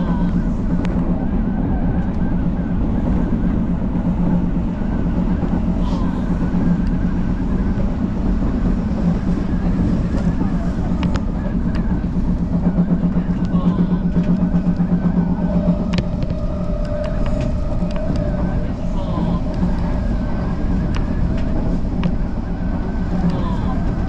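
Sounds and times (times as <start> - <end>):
high steady whine: 0.0 - 24.0
train rumble and hum: 0.0 - 24.0.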